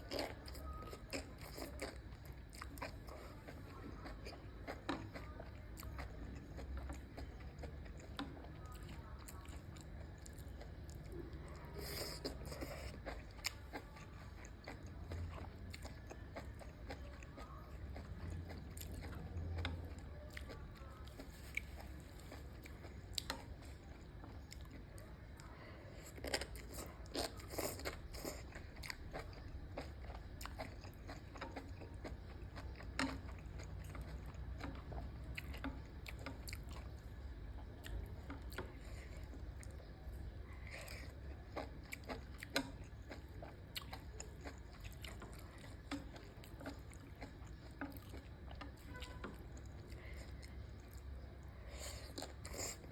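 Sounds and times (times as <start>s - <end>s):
crunchy chewing of mushrooms: 0.0s - 52.9s.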